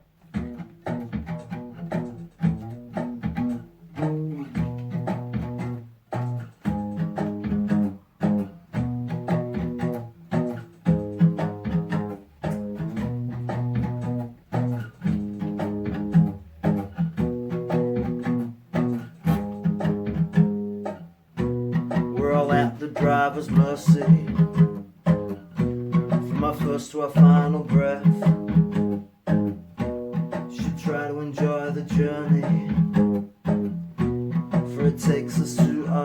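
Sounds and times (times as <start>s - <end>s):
low plucked string notes: 0.0s - 36.0s.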